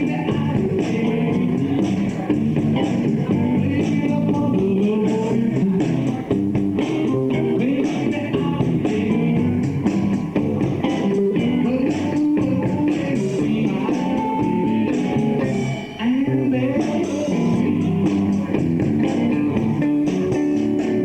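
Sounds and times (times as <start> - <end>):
bass: 0.0 - 21.0
drum kit: 0.0 - 21.0
strummed guitars: 0.0 - 21.0.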